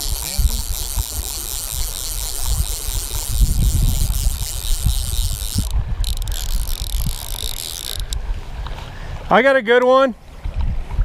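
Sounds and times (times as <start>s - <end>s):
river flowing: 0.0s - 9.3s
wind buffeting microphone: 0.0s - 9.3s, 10.3s - 11.0s.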